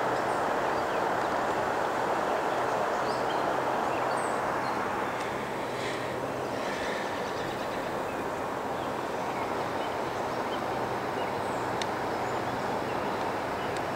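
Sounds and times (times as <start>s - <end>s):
river water rushing over dam: 0.0s - 13.9s.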